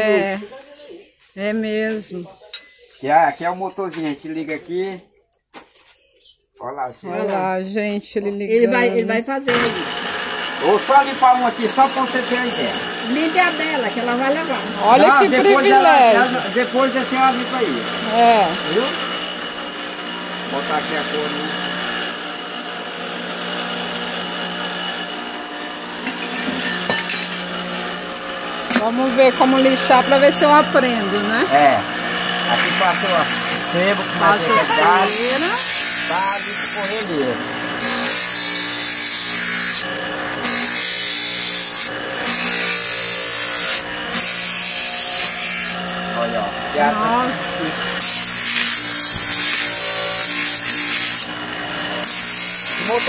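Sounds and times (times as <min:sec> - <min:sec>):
electric motor humming: 0:08.7 - 0:53.0
metal ladle grinding on sanding wheel: 0:09.5 - 0:53.0.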